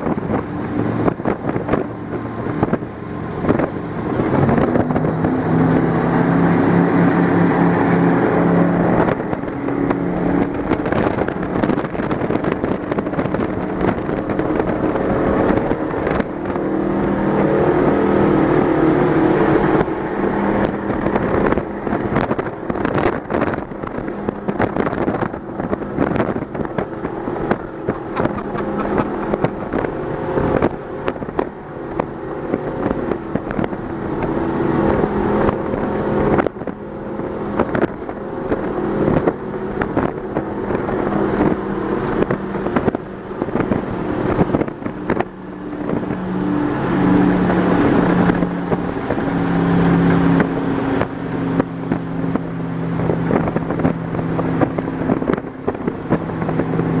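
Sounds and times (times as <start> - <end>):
powerboat engines at speed: 0.0 - 57.0.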